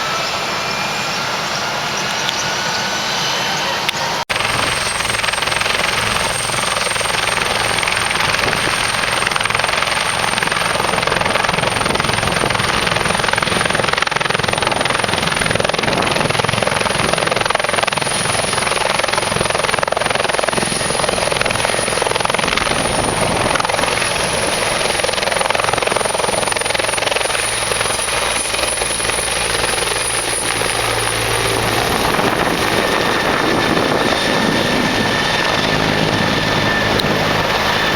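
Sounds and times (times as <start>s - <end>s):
helicopter engines and rotor: 0.0s - 37.9s.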